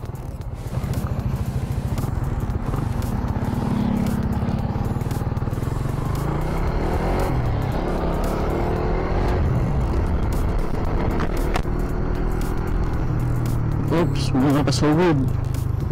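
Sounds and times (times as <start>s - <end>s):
motorcycle engine riding off: 0.0s - 15.9s.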